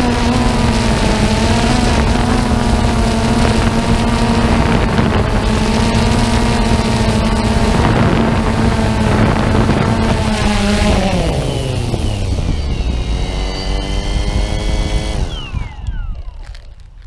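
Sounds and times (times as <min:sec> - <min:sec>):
drone propellers buzzing: 0:00.0 - 0:17.0
wind rushing over microphone: 0:00.0 - 0:17.0.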